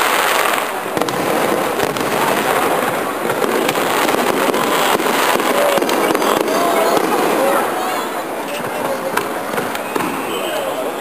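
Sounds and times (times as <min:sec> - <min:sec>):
sharp firework pops: 0:00.0 - 0:07.6, 0:08.6 - 0:10.3
fireworks crackling: 0:00.0 - 0:11.0.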